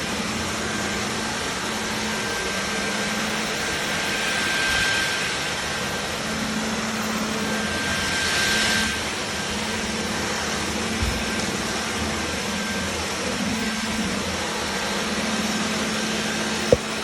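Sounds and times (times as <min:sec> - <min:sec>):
cordless vacuum running: 0:00.0 - 0:17.0.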